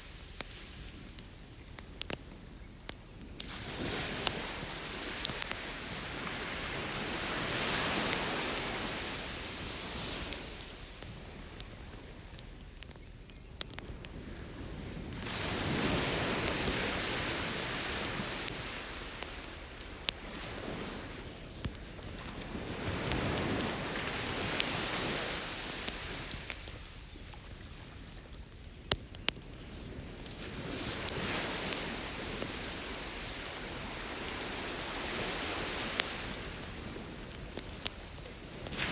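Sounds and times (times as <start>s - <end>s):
campfire crackling: 0.0s - 38.9s
ocean waves washing on beach: 0.0s - 38.9s.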